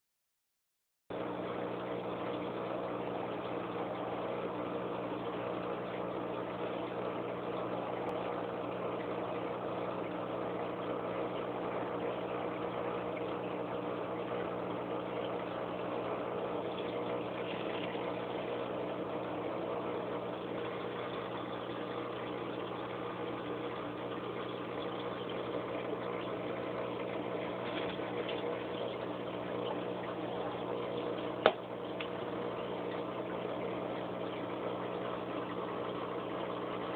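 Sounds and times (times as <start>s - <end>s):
aquarium pump humming: 1.1s - 36.9s.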